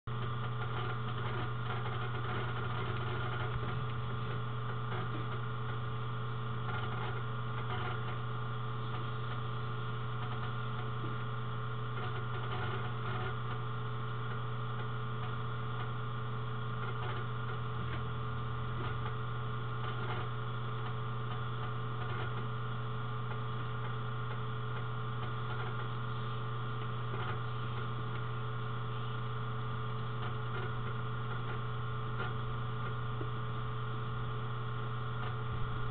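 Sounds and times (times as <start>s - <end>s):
low electrical hum: 0.1s - 35.9s.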